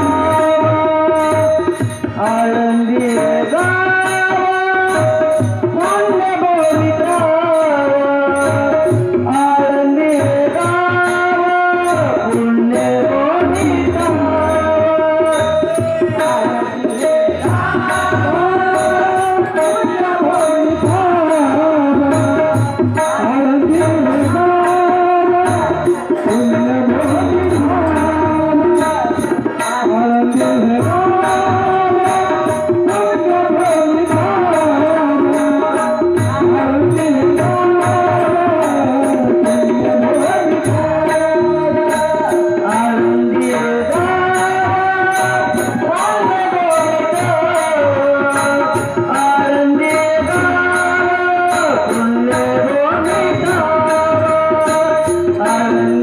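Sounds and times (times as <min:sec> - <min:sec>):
hand drum rhythm: 0:00.0 - 0:56.0.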